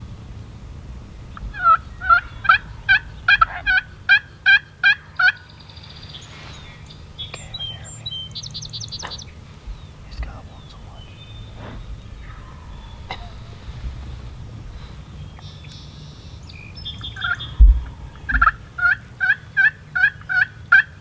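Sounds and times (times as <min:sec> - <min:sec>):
songbirds chirping: 0:00.0 - 0:21.0
wild turkey calling: 0:00.2 - 0:21.0.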